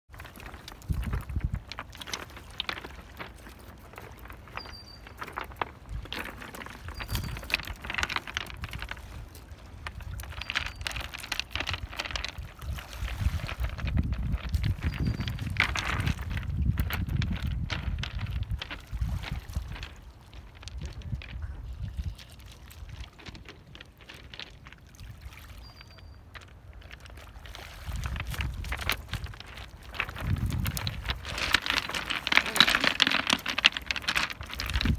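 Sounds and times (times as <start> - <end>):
wind rumble on microphone: 0.1 - 3.3, 4.2 - 26.7, 27.3 - 34.9
footsteps on pebbles: 0.1 - 25.0, 26.3 - 34.9
stones clicking: 0.2 - 21.4, 22.7 - 24.8, 26.3 - 34.9.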